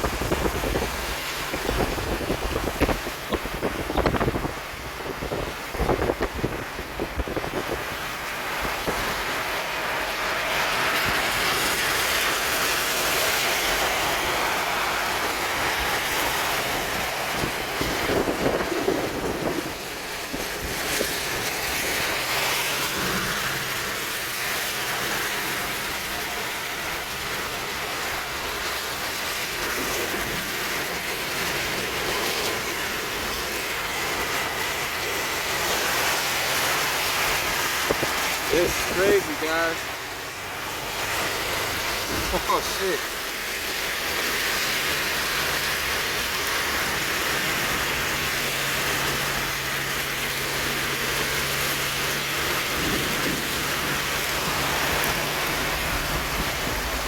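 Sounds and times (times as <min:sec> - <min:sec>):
rain: 0:00.0 - 0:57.0
tyre noise on wet road: 0:00.0 - 0:57.0.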